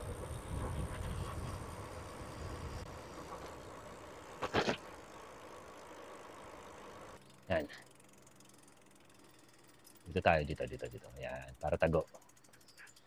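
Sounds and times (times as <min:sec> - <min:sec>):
bicycle rattle: 0:00.0 - 0:13.0
bicycle tyres rumbling: 0:00.0 - 0:13.0.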